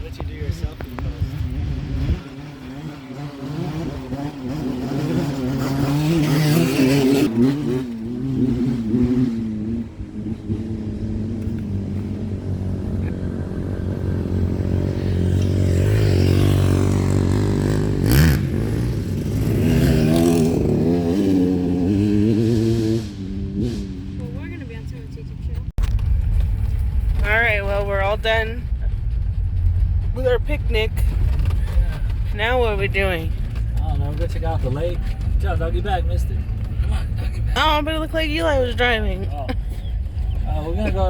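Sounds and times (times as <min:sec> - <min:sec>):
vehicle engine revving: 0:00.1 - 0:41.0.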